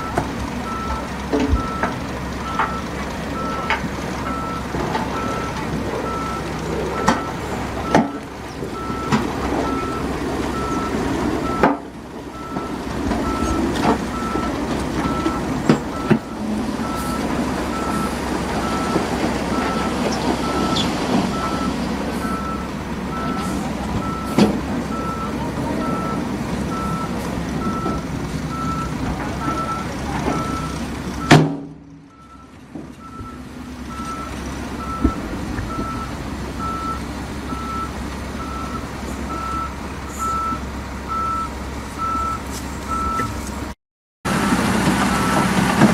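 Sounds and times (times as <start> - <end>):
back-up alarm beeping: 0.0 - 31.4, 32.1 - 43.4
diesel engine running: 0.0 - 45.9.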